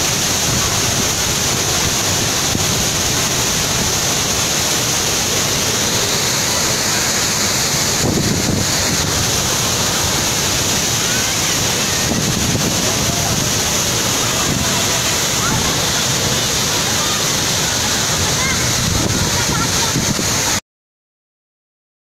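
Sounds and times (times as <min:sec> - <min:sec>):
waterfall rushing: 0:00.0 - 0:20.6.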